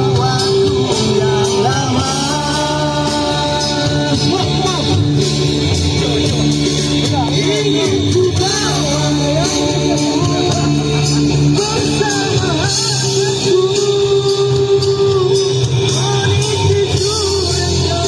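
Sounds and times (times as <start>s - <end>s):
man singing into a microphone: 0.0s - 18.0s
music backing track: 0.0s - 18.0s.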